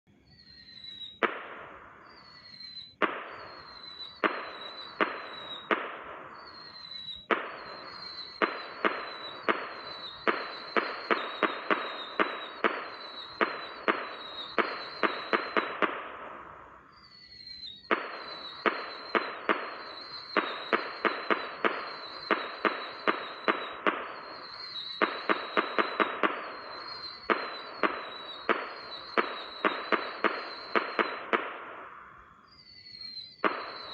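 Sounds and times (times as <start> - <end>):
rocket firework whistle: 0.1 - 33.9
firework bang: 3.0 - 16.6, 17.8 - 32.1, 33.4 - 33.9.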